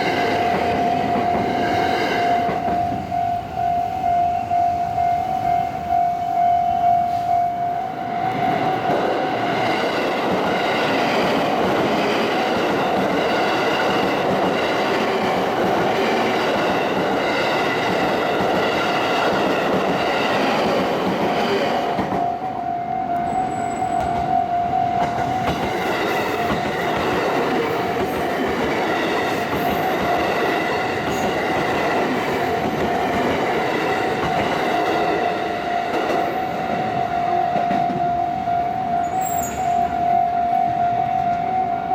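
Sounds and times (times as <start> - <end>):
level-crossing warning bell ringing: 0.0 - 41.9
train passing: 0.0 - 41.9.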